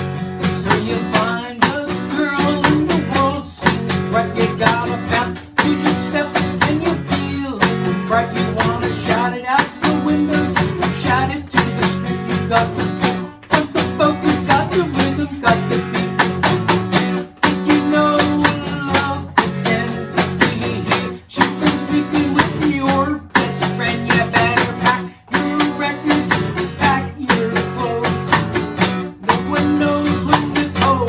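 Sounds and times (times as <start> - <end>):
strummed guitar music: 0.0 - 31.0.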